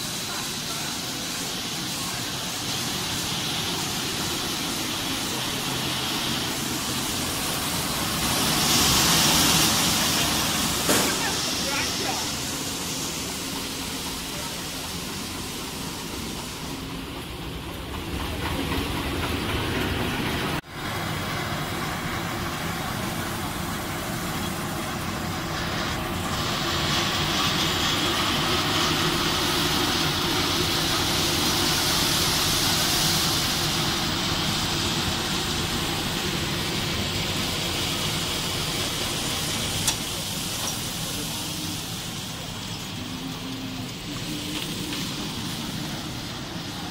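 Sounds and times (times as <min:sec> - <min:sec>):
factory machinery humming and hissing: 0:00.0 - 0:46.9.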